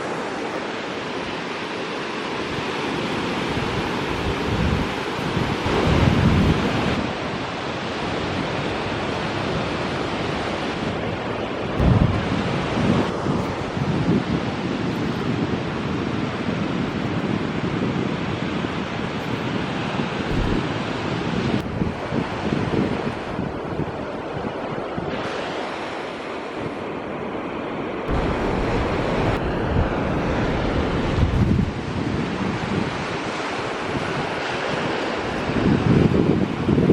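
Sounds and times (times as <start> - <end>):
surf washing onto beach: 0.0 - 36.9
wind buffeting microphone: 2.4 - 25.6, 28.0 - 36.9.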